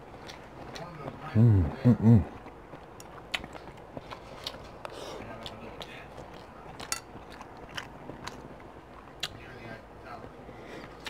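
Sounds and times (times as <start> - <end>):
close chewing with mouth clicks: 0.1 - 11.0.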